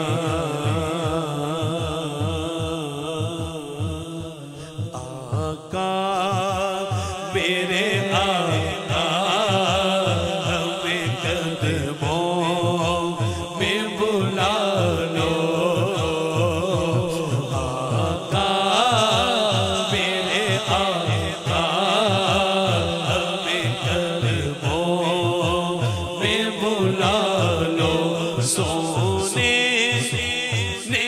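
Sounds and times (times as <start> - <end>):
low rhythmic pulse: 0.0 - 31.0
man singing devotional song: 0.0 - 31.0.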